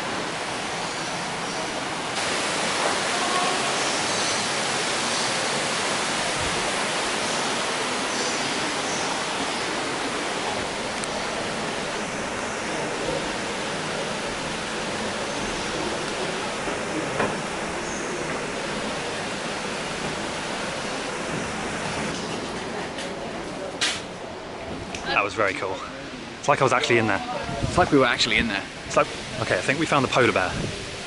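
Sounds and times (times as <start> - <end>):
running water: 0.0 - 31.0.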